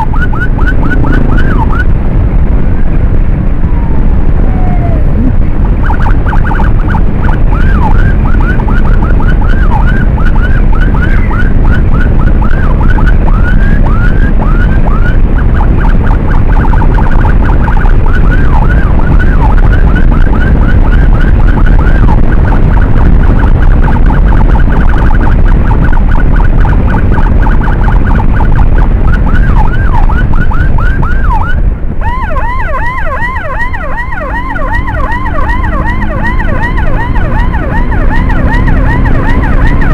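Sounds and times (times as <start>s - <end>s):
electronic siren yelping: 0.0s - 2.0s, 4.3s - 39.9s
wind and road noise: 0.0s - 39.9s.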